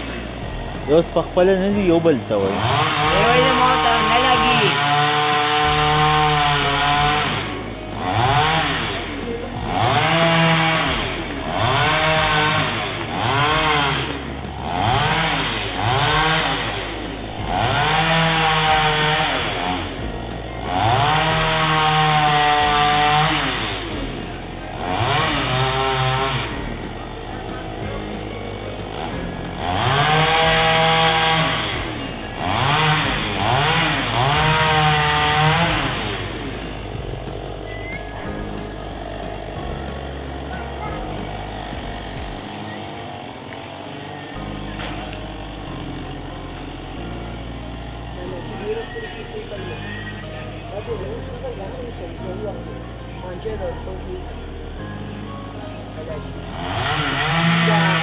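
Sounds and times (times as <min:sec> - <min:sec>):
chainsaw engine revving: 0:00.0 - 0:58.0.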